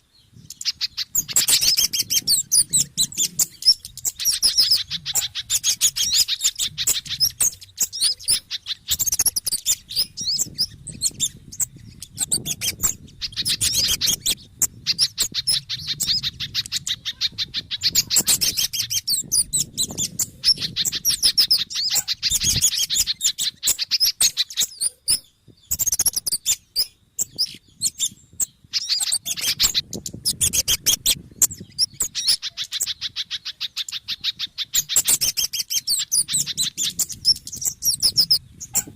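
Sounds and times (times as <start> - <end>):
recorded bird calls chirping: 0.0 - 38.9.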